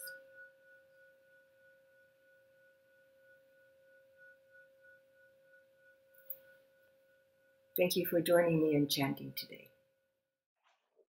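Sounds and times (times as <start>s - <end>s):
bowl bell ringing: 0.0s - 10.0s.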